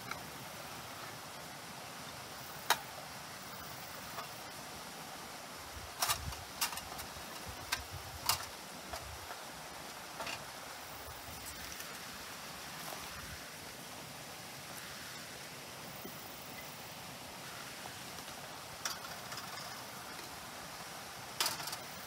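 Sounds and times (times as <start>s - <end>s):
stream hissing: 0.0s - 22.0s.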